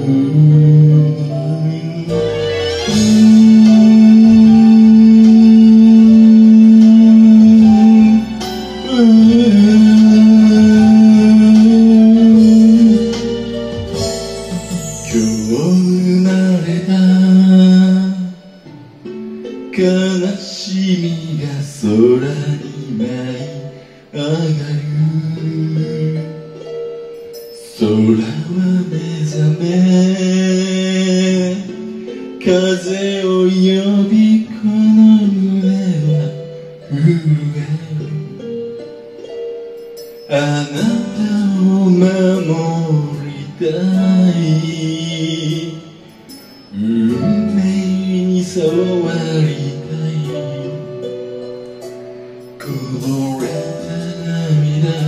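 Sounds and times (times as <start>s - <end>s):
man singing slow melody: 0.0s - 55.0s.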